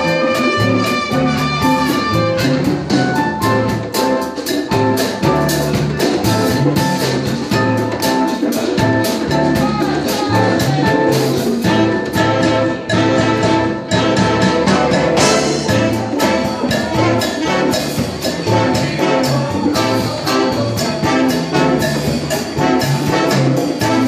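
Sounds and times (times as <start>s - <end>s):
live dance band playing: 0.0s - 24.0s
steady drum beat: 0.0s - 24.0s.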